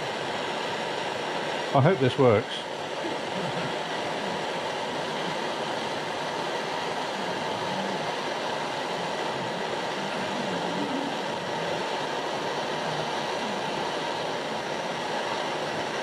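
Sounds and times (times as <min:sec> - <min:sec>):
gas blowtorch hissing: 0:00.0 - 0:16.0.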